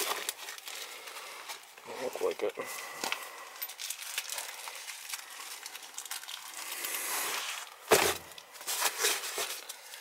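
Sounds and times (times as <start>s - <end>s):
parts rustling and crinkling: 0.0s - 10.0s.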